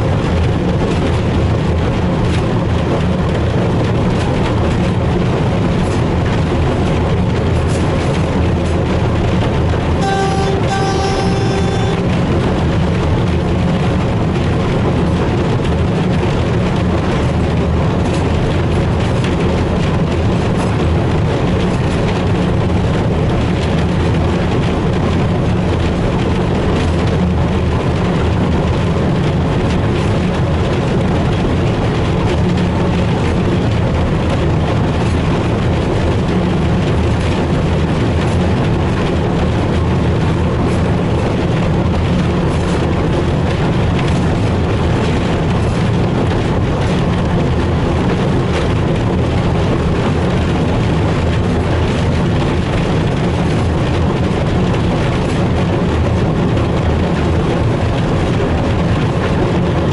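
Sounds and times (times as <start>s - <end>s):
diesel engine running: 0.0s - 59.9s
train wheels on rails: 0.0s - 59.9s.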